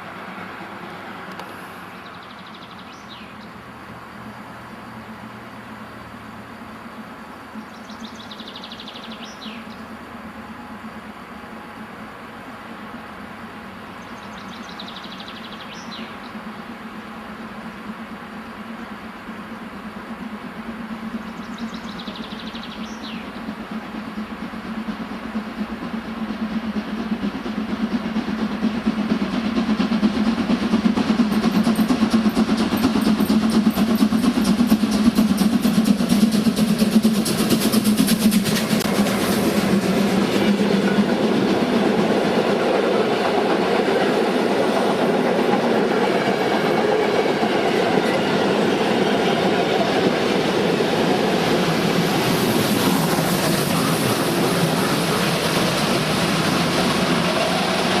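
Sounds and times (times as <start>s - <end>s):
train rolling on track: 0.0s - 58.0s.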